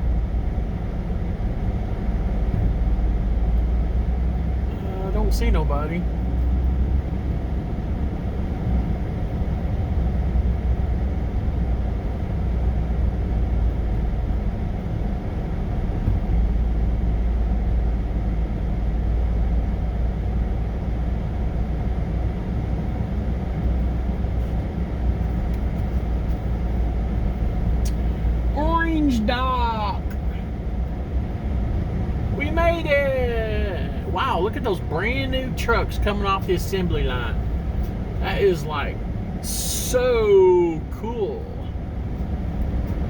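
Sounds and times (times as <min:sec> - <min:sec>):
road rumble: 0:00.0 - 0:43.0
truck engine running: 0:00.0 - 0:43.0.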